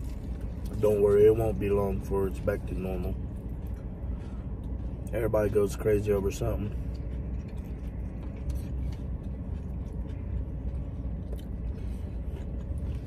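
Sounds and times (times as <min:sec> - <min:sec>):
car interior hum: 0:00.0 - 0:13.0
crunchy chewing: 0:00.0 - 0:13.0.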